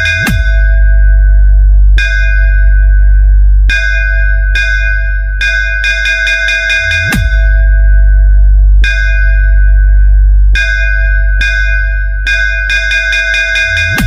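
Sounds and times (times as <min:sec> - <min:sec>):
bell-like synth hits: 0:00.0 - 0:14.0
heavy deep bass: 0:00.0 - 0:14.0.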